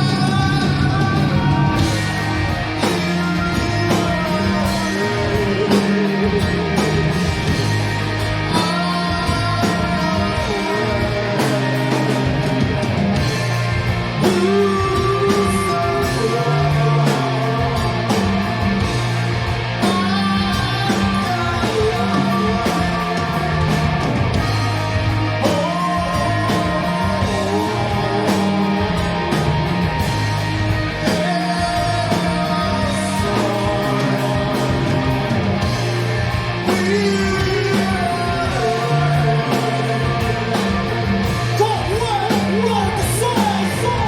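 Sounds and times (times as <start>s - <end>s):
person singing: 0.0s - 44.0s
rock band playing: 0.0s - 44.0s.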